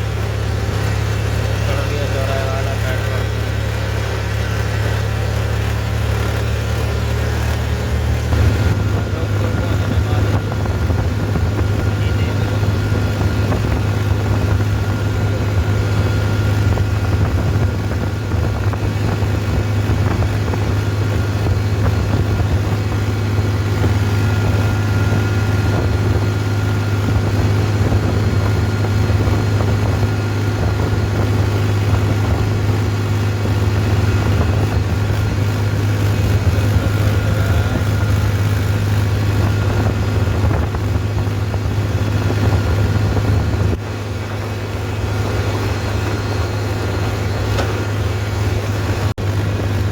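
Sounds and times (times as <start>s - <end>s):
tractor engine droning: 0.0s - 49.9s.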